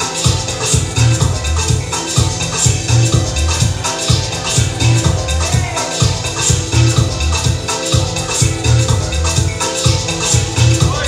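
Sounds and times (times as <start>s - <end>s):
house music: 0.0s - 11.0s.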